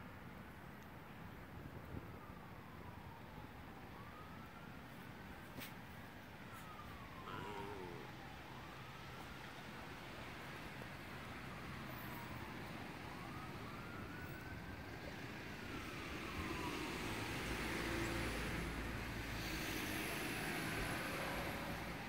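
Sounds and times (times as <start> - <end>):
traffic noise: 0.0 - 22.0
distant siren wailing: 1.6 - 22.0.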